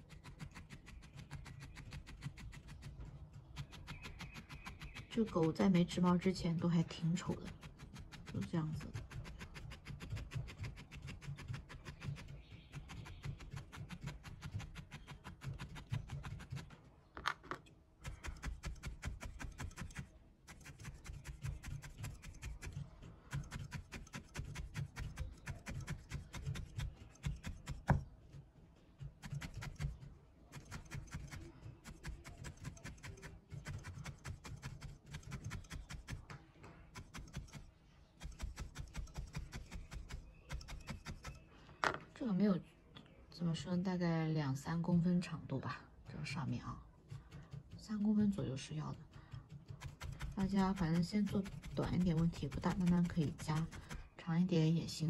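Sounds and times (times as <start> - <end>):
felting needle poking wool: 0.0 - 42.3, 46.1 - 55.0.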